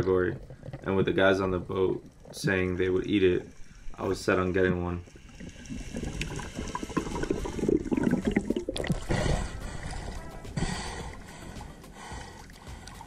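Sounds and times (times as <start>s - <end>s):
underwater gurgling and bubbling: 0.0s - 13.0s
water splashing: 0.0s - 13.0s.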